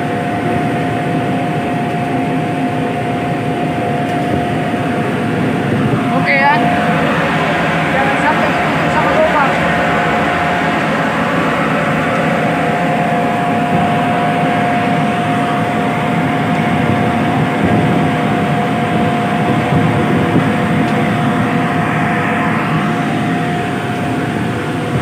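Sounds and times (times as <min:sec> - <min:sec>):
mid-pitched whine: 0:00.0 - 0:25.0
ship machinery rumble: 0:00.0 - 0:25.0.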